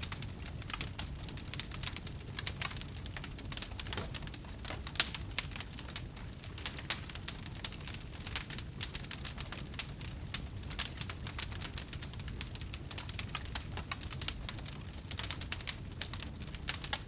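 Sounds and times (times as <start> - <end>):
wood bonfire crackling: 0.0 - 17.0.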